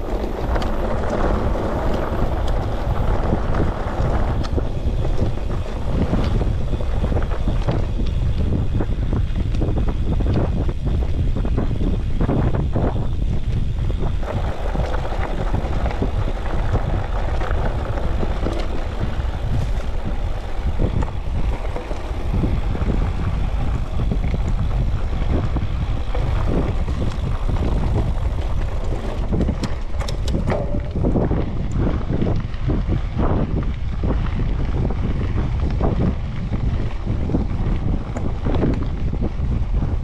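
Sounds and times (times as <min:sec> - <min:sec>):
bike frame rattling: 0:00.0 - 0:40.0
wind buffeting microphone: 0:00.0 - 0:40.0.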